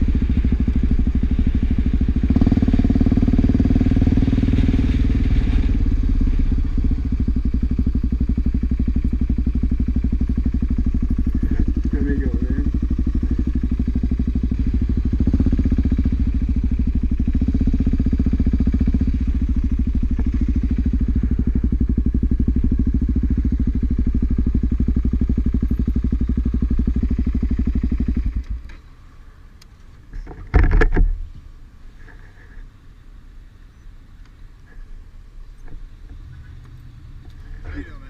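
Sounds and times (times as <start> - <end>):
motorcycle engine running: 0.0 - 28.9, 35.5 - 38.0.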